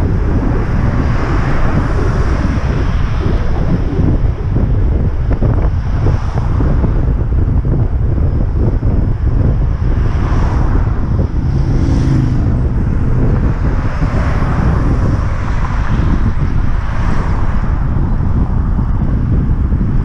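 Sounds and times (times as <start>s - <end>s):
passing traffic: 0.0s - 20.0s
road noise: 0.0s - 20.0s
wind buffeting microphone: 0.0s - 20.0s.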